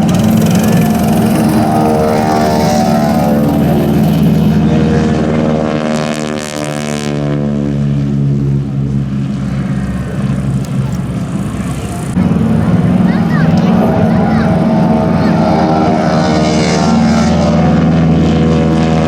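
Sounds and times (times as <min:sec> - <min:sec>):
propeller airplane flying past: 0:00.0 - 0:19.0.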